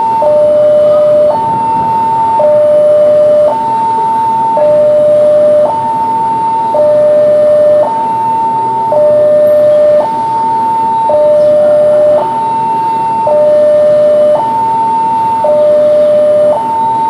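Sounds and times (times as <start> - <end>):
two-tone warning siren: 0.0 - 17.0.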